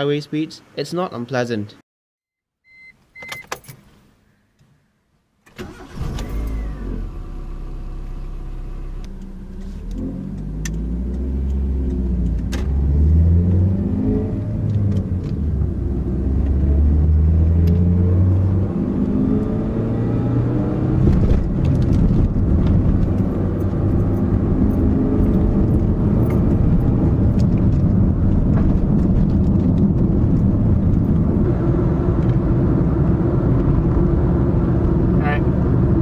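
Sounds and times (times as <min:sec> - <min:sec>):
car engine starting and accelerating: 0:05.5 - 0:36.0.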